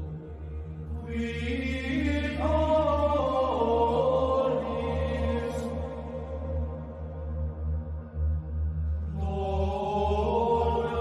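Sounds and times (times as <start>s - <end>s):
chant singing: 0.0s - 8.1s, 8.9s - 11.0s
steady low drone: 0.0s - 11.0s.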